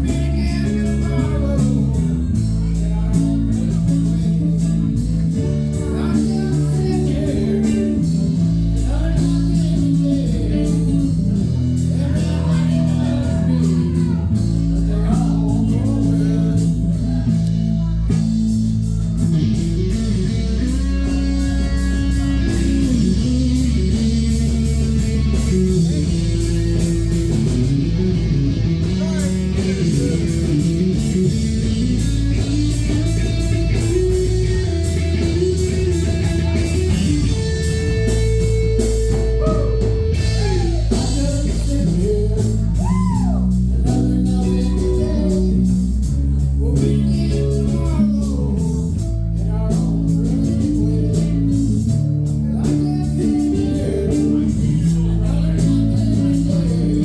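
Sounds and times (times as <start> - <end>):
bass: 0.0 - 57.0
guitar: 0.0 - 57.0.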